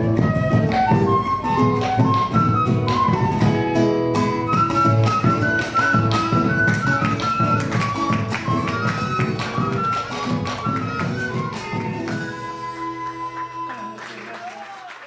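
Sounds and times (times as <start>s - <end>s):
rhythmic percussive strikes: 0.0s - 14.2s
folk band playing: 0.0s - 14.3s.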